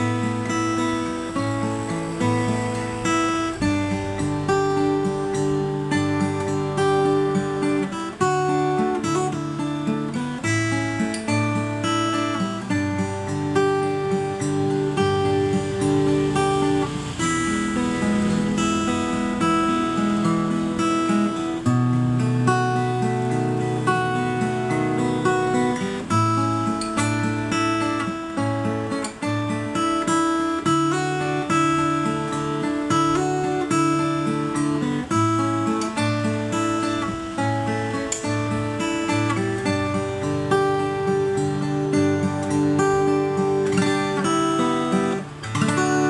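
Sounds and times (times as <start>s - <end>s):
acoustic guitar fingerstyle: 0.0s - 46.0s.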